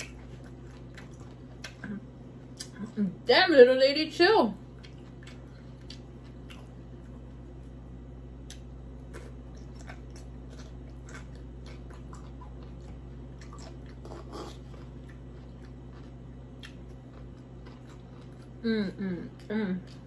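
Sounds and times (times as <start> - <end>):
chewing with wet smacks: 0.0 - 3.0, 4.6 - 7.8, 8.4 - 18.6
steady low hum: 0.0 - 20.0.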